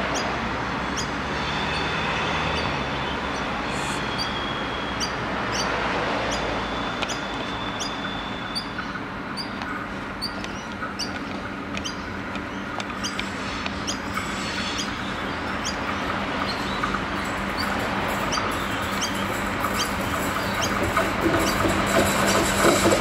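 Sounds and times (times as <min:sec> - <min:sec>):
diesel railcar rumbling: 0:00.0 - 0:23.0.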